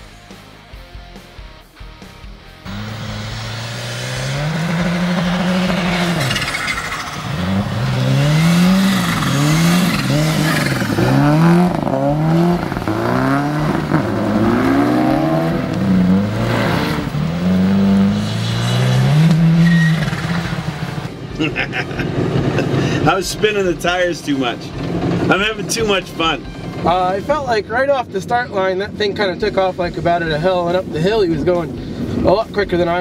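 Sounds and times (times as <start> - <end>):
rally car engines revving: 2.6 - 33.0.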